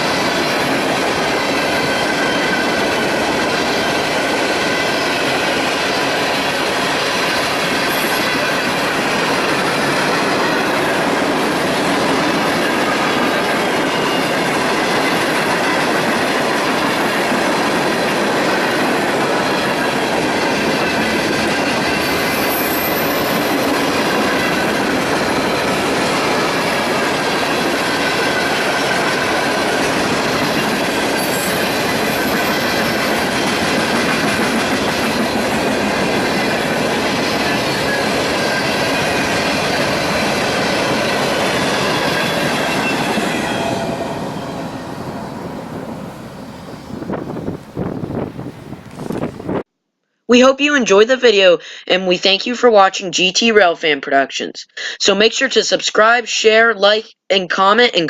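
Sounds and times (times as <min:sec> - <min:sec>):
wheels clacking over rail joints: 0:00.0 - 0:49.6.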